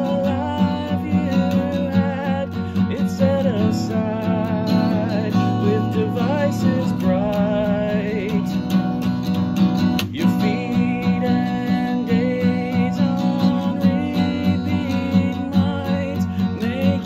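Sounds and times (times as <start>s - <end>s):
acoustic guitar strumming: 0.0s - 17.0s
man singing: 0.0s - 17.0s.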